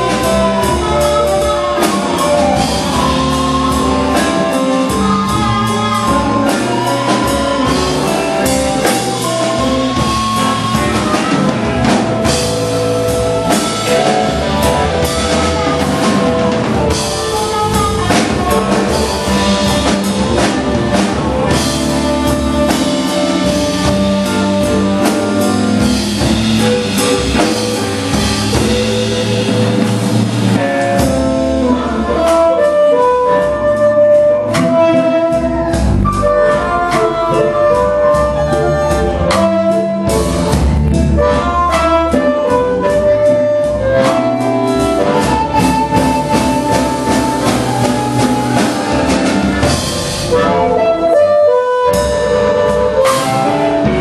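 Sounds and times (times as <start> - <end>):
harmonica held notes: 0.0 - 54.0
live blues band: 0.0 - 54.0.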